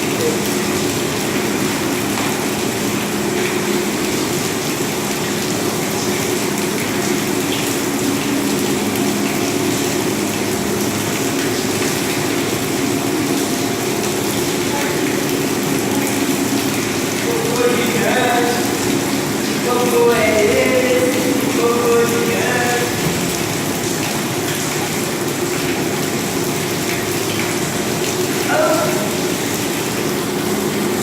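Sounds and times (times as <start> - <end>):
machinery hum with hiss: 0.0 - 31.0.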